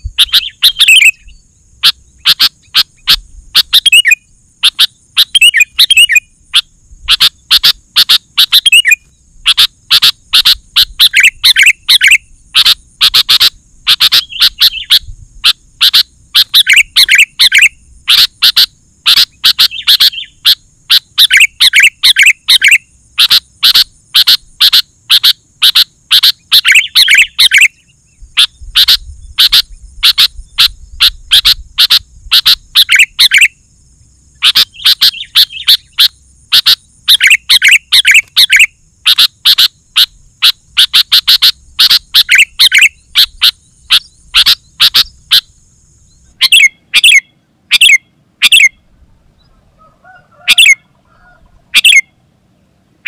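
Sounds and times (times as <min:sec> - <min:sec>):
bulbul sharp chirping: 0:00.0 - 0:33.6, 0:34.4 - 0:48.8.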